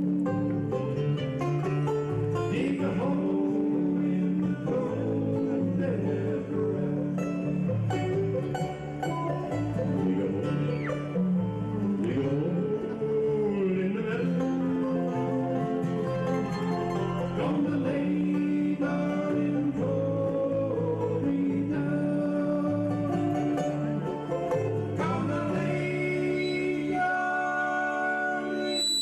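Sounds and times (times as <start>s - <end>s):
bluegrass band playing: 0.0s - 29.0s.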